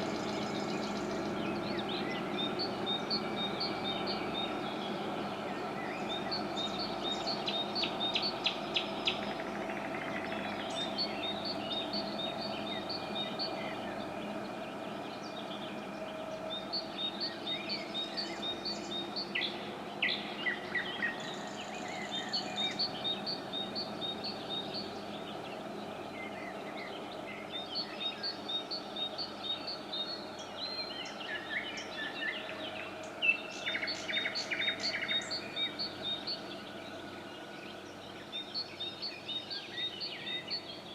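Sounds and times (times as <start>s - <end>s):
low background hum: 0.0s - 40.9s
songbirds singing: 0.0s - 40.9s.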